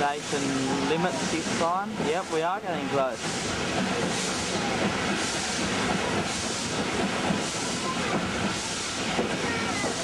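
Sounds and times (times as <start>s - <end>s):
steam locomotive chuffing: 0.0s - 10.0s
train rumbling on rails: 0.0s - 10.0s.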